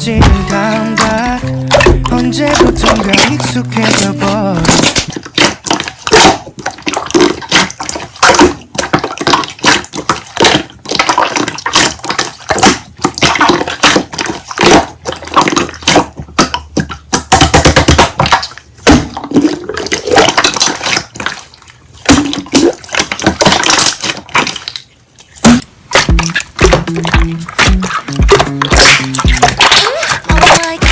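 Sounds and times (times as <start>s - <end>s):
slime squelching by hand: 0.0s - 30.9s.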